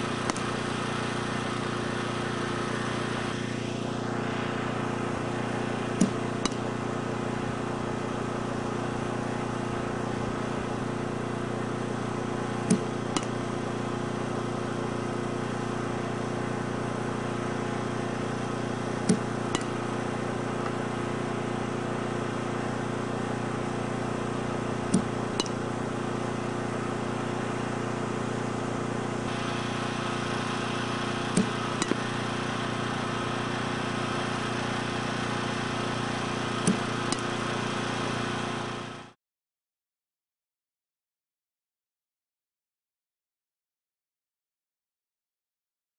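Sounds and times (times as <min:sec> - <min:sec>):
steady mechanical drone: 0:00.0 - 0:39.2.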